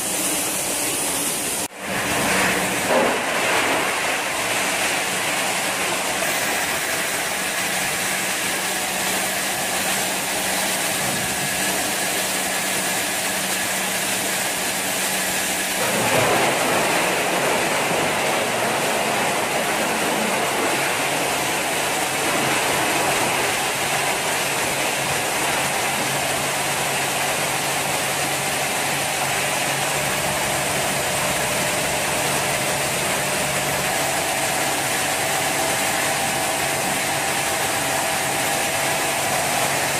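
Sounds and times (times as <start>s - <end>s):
industrial crusher humming: 0.0s - 39.9s.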